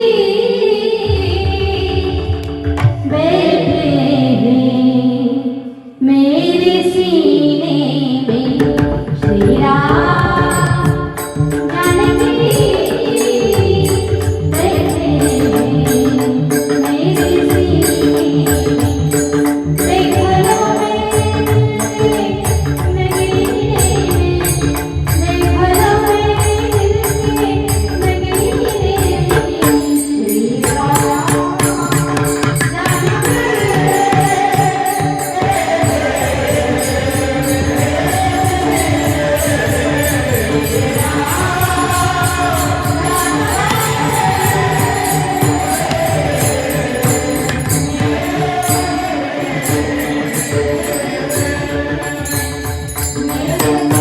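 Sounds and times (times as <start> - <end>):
percussion beat: 1.1 - 4.0, 8.4 - 54.0.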